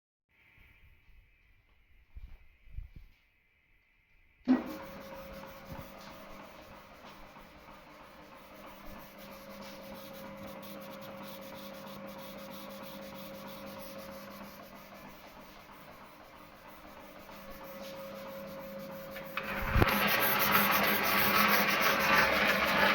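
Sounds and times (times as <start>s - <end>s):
bandsaw motor hum and rattle: 4.5s - 22.9s.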